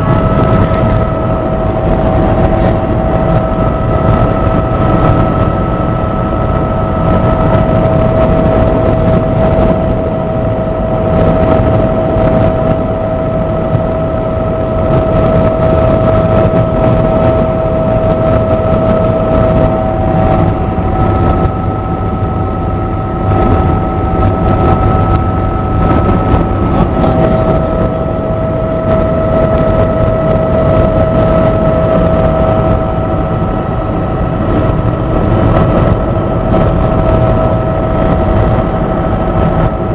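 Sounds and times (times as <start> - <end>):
helicopter engine and rotor: 0.0 - 39.9
high whine: 0.0 - 39.9.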